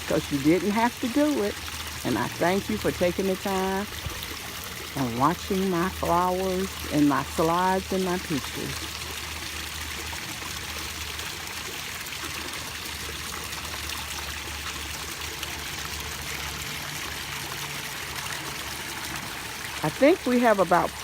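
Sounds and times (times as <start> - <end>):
water trickling down pond waterfall: 0.0 - 21.0.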